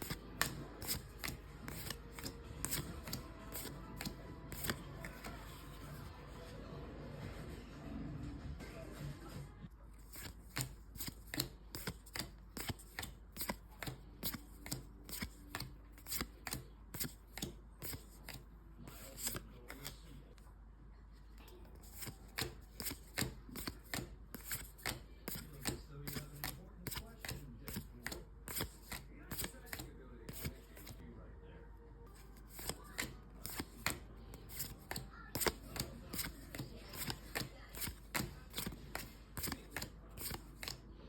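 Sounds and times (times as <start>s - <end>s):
trading cards snapping: 0.0s - 5.9s, 10.0s - 20.0s, 21.8s - 31.0s, 32.4s - 40.8s.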